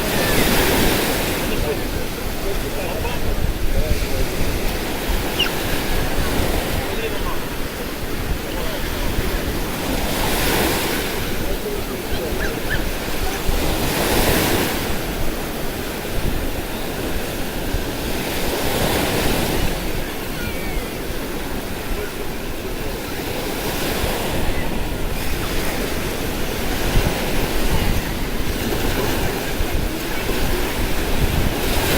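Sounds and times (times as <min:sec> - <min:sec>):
sea waves breaking on shore: 0:00.0 - 0:31.9
wind buffeting microphone: 0:00.0 - 0:31.9.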